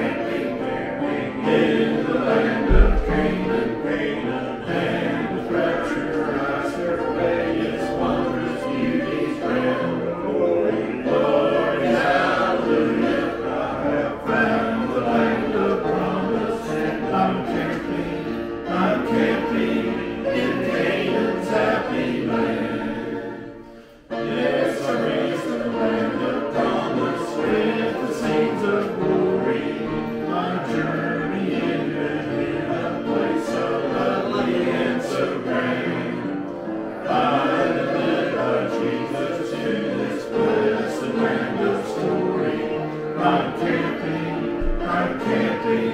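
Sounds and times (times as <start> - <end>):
group singing gospel in harmony: 0.0 - 45.9.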